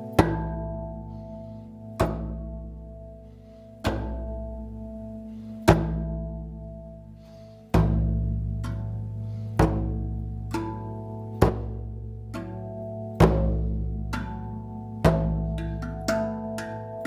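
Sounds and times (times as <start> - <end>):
steel tongue drum notes: 0.0 - 17.0.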